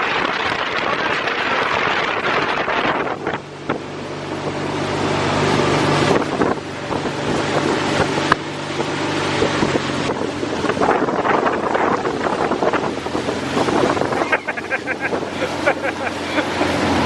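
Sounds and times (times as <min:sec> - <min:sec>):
motor humming: 0:00.0 - 0:17.0
wind rushing over microphone: 0:00.0 - 0:17.0.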